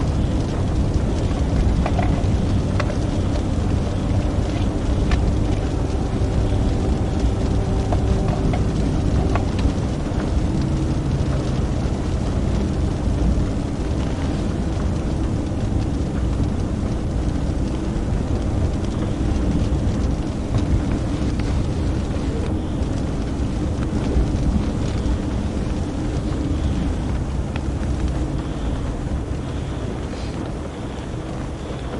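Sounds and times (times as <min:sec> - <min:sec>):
car engine and road noise: 0:00.0 - 0:31.9.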